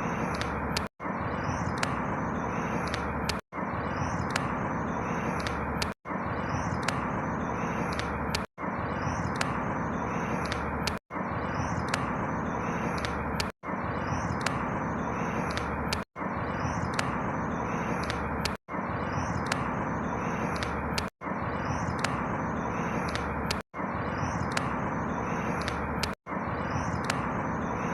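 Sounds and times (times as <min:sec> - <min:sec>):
faint high bird chirps: 0:00.0 - 0:27.9.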